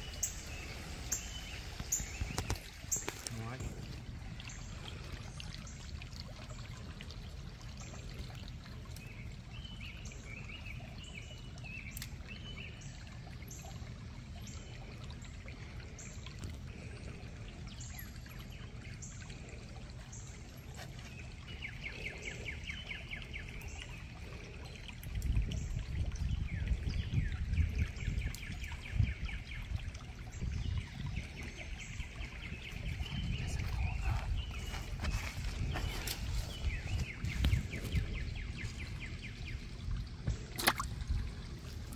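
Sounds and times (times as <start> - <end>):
creek trickling: 0.0 - 41.9
songbirds chirping: 0.0 - 41.9.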